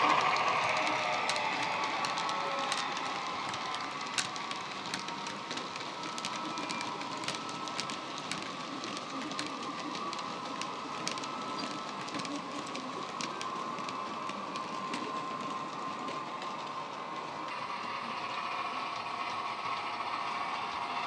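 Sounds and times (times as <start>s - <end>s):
model wagon wheels clicking: 0.0s - 17.6s.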